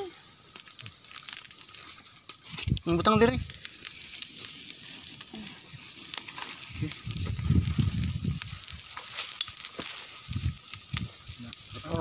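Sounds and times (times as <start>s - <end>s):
brush crackling while smouldering: 0.0s - 12.0s.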